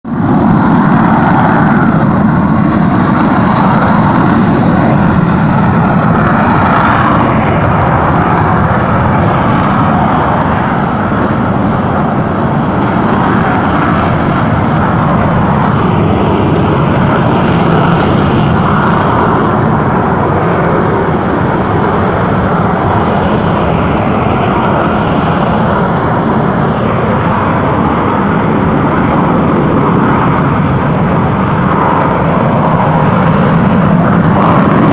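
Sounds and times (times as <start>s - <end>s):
volcanic crater rumbling roar: 0.0s - 34.9s.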